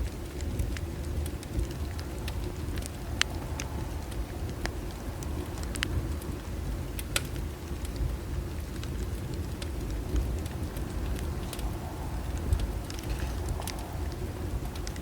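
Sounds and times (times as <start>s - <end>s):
bonfire crackling and popping: 0.0s - 15.0s
low rumble of flames: 0.0s - 15.0s.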